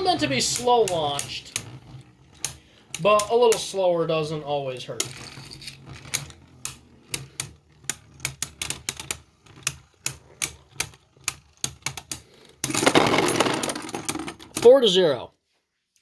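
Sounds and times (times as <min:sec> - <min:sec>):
spinning tops whirring: 0:00.0 - 0:14.8.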